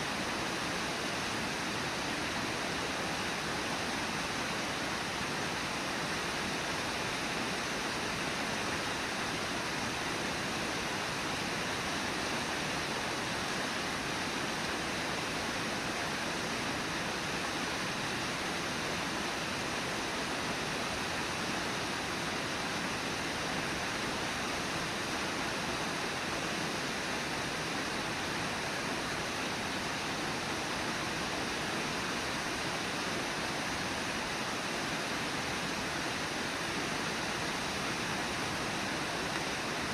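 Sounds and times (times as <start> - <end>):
river water rushing over riffles: 0.0 - 39.9.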